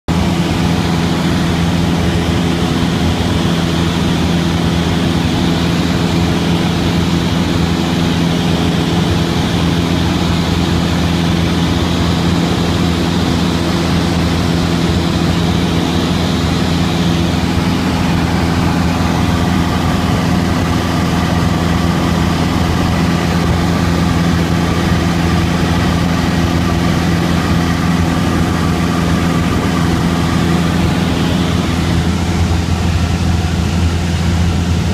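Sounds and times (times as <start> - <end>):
propeller airplane engine drone: 0.1 - 34.9.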